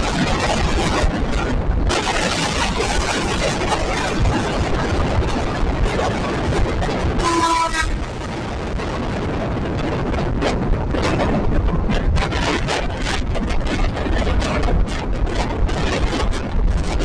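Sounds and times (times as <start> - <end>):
train rumbling: 0.0 - 17.0
wind buffeting: 0.0 - 17.0.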